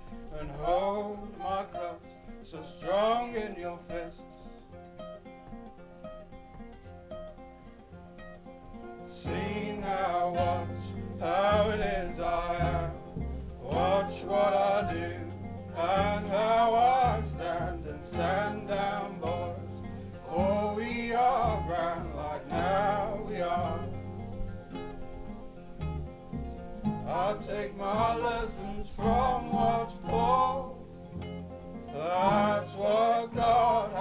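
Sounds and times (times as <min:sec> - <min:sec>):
acoustic folk band playing: 0:00.0 - 0:34.0
nylon-string guitar: 0:00.0 - 0:34.0.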